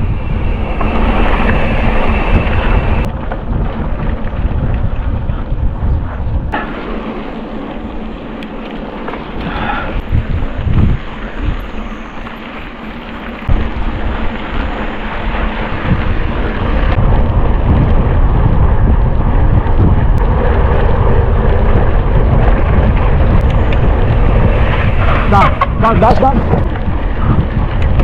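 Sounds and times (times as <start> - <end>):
mountain bike rumbling over rough ground: 0.0 - 28.0
wind rushing over microphone: 0.0 - 28.0.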